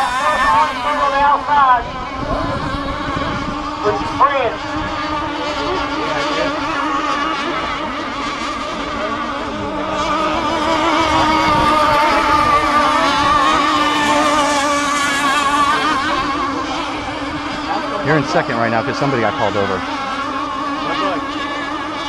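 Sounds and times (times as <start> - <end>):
model boat motors whining: 0.0 - 22.0.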